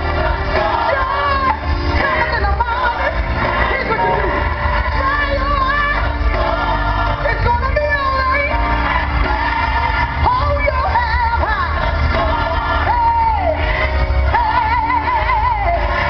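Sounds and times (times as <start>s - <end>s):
woman singing: 0.0s - 8.8s, 10.2s - 16.0s.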